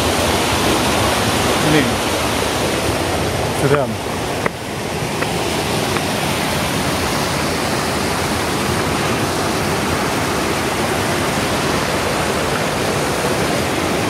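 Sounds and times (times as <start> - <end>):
water rushing over rapids: 0.0 - 14.0.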